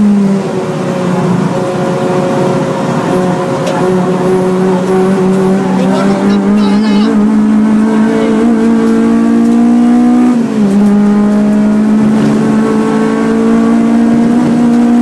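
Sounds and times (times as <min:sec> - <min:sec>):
car engine at racing pace: 0:00.0 - 0:15.0.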